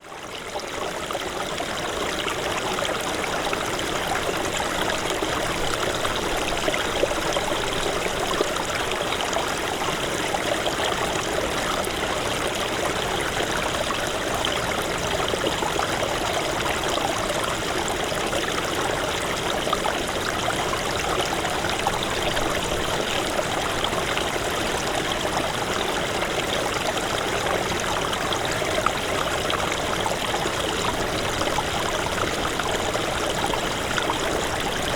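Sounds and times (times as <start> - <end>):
stream babbling: 0.0 - 34.9.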